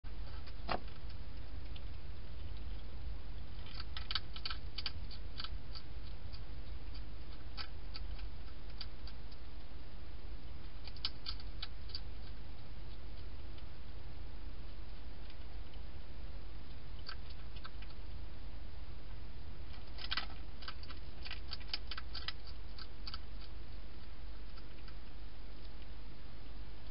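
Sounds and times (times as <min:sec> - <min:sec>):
low hum: 0:00.1 - 0:26.9
hedgehog crunching dry food: 0:00.2 - 0:18.3, 0:19.1 - 0:26.0.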